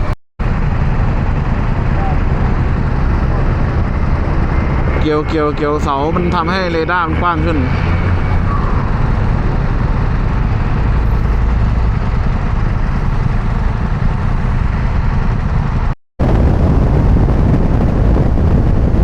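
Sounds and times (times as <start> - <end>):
motorcycle engine: 0.0 - 16.0
wind rushing: 0.0 - 19.0.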